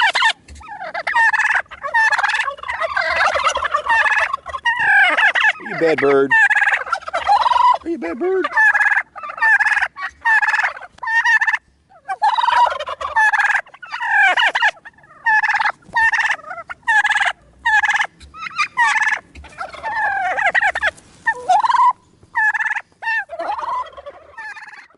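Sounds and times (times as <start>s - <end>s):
turkeys gobbling: 0.0s - 24.9s.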